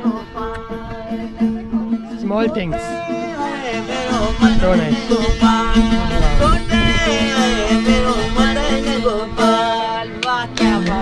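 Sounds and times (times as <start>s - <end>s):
person singing folk melody: 0.0s - 11.0s.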